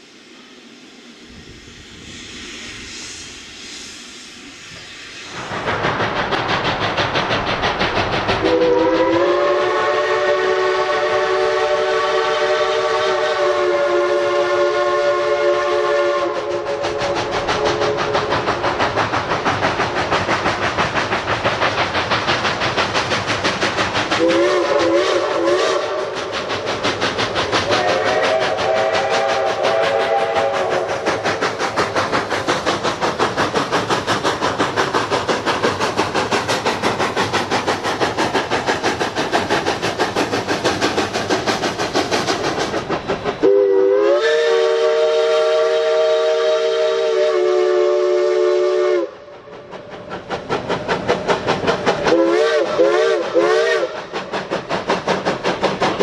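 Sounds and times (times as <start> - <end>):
steam locomotive chugging: 0.0 - 56.0.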